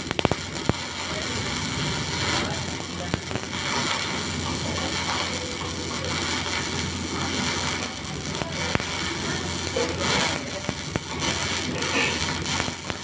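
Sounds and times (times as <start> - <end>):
arc welding crackling hiss: 0.0 - 13.0
sharp welding pops: 0.0 - 13.0.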